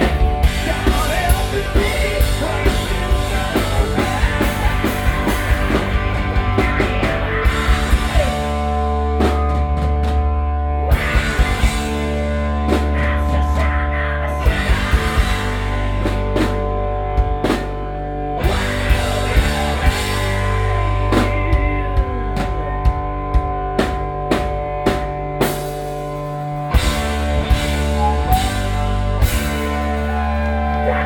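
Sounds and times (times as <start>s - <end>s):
electric guitar chords: 0.0s - 31.0s.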